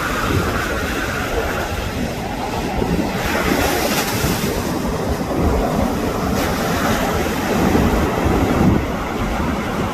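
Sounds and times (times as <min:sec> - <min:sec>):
sea waves washing ashore: 0:00.0 - 0:09.9
wind buffeting microphone: 0:00.0 - 0:09.9.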